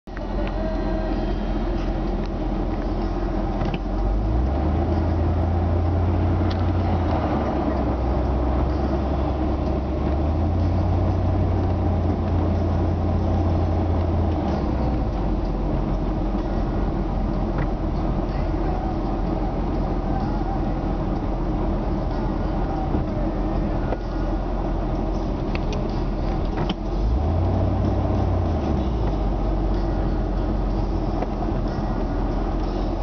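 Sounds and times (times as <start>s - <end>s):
truck engine drone: 0.1s - 33.0s.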